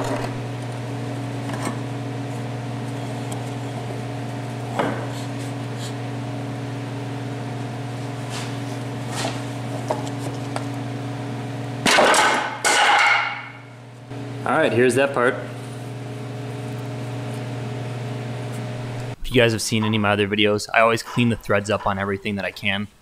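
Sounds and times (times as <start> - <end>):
air hammer buzzing: 0.0 - 19.2.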